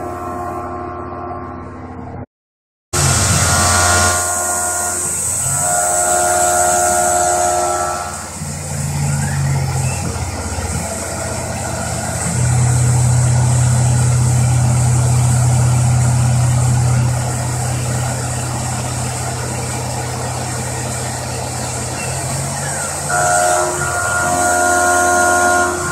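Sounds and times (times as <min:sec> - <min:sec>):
machine whine: 0:03.0 - 0:25.9
milling machine hum: 0:03.0 - 0:25.9.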